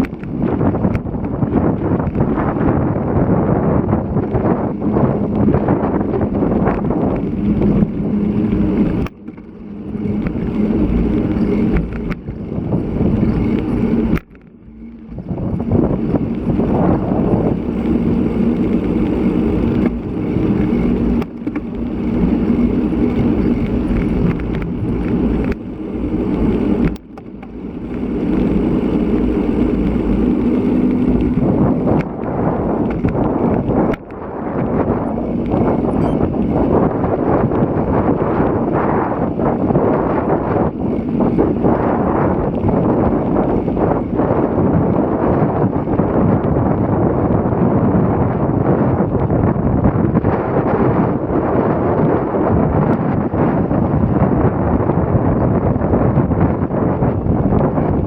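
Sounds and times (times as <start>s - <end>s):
tyres rumbling on road: 0.0s - 58.0s
wind buffeting microphone: 0.0s - 58.0s.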